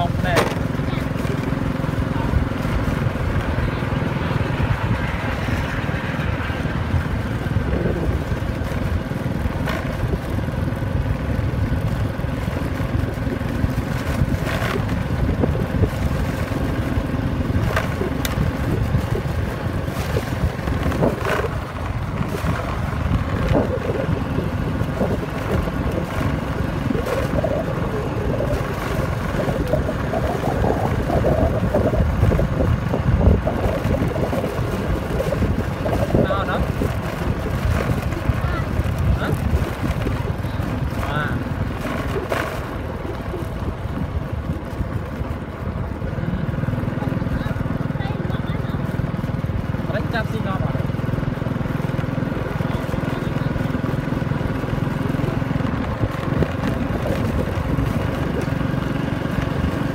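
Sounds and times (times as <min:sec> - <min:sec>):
wind on microphone: 0:00.0 - 0:49.5, 0:52.1 - 0:59.9
motorbike engine running: 0:00.0 - 0:59.9.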